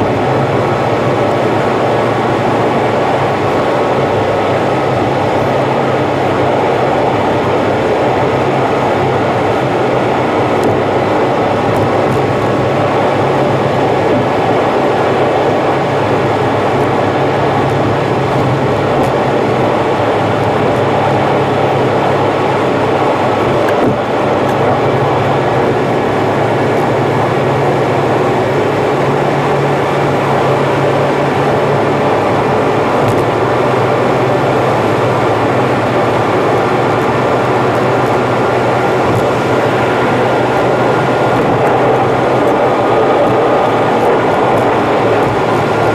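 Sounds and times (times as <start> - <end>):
car road and engine noise: 0.0 - 45.9.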